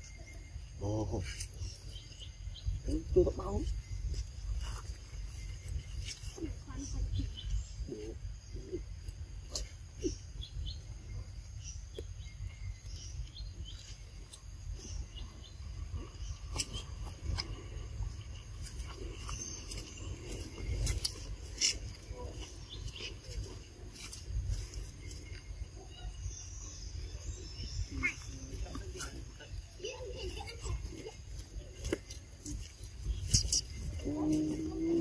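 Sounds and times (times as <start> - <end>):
insect chirring: 0.0 - 35.0.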